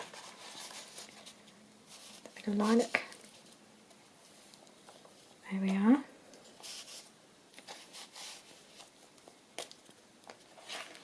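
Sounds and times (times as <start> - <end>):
paper cards rustling and sliding: 0.0 - 5.4, 6.4 - 11.0.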